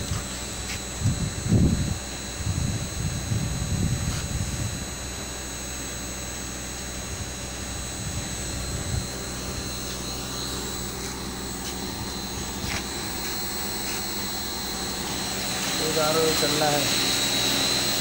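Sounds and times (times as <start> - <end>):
high-pitched whine: 0.0 - 18.0
machinery drone: 0.0 - 18.0.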